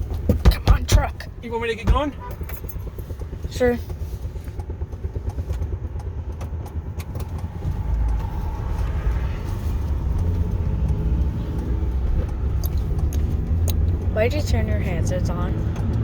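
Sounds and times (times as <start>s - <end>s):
road rumble: 0.0s - 16.0s
truck engine: 0.0s - 16.0s.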